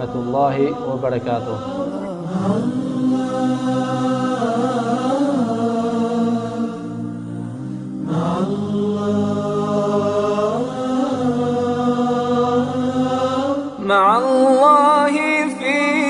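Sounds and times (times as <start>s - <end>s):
long held sung notes: 0.0s - 16.0s.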